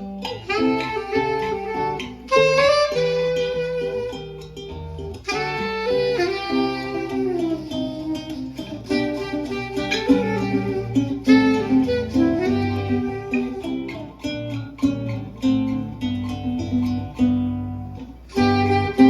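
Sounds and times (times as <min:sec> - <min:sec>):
held melody line: 0:00.0 - 0:19.0
plucked acoustic guitar: 0:00.0 - 0:19.0.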